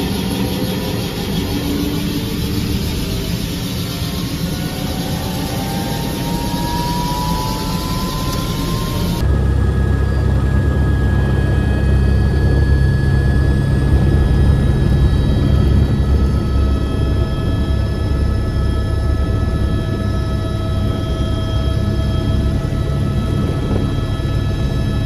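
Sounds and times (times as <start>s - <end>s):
aircraft engines droning: 0.0s - 25.0s.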